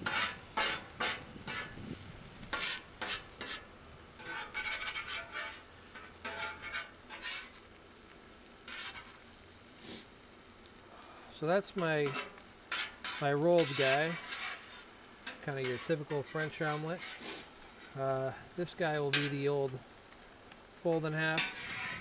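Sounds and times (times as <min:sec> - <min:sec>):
metal spatula scraping griddle: 0:00.0 - 0:07.8, 0:08.6 - 0:10.0, 0:11.6 - 0:19.6, 0:20.9 - 0:22.0
eggs sizzling: 0:00.0 - 0:22.0.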